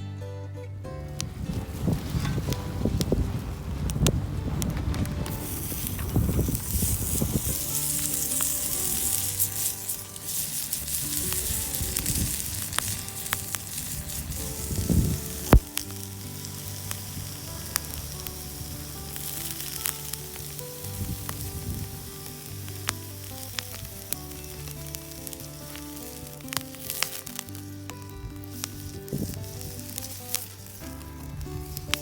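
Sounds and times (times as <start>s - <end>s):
soft background music: 0.0s - 32.0s
wood fire crackling and popping: 1.0s - 32.0s.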